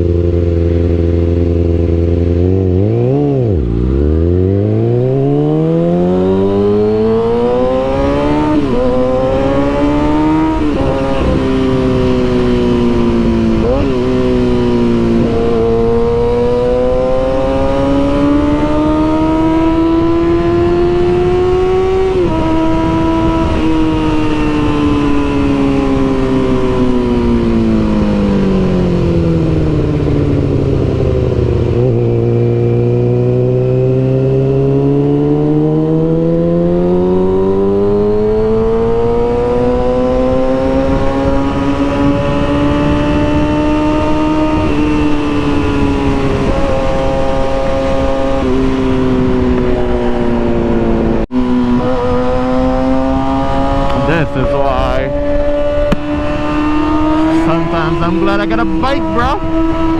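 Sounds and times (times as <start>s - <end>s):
motorcycle engine revving under load: 0.0s - 59.9s.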